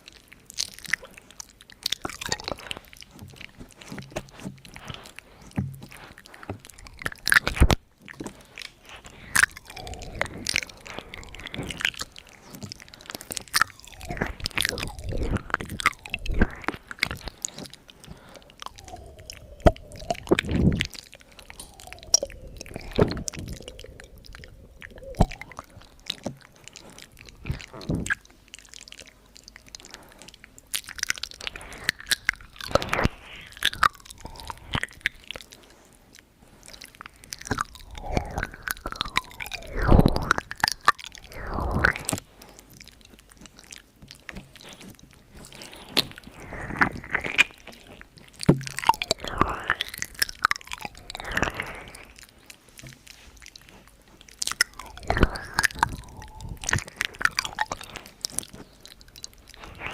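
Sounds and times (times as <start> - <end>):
wet mouth clicks and pops: 0.0 - 59.9.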